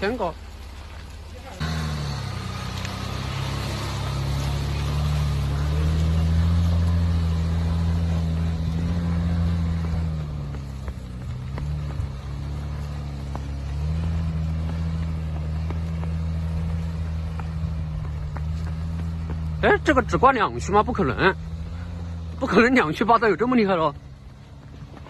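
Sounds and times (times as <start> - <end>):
engine revving on a climb: 1.5 - 25.0.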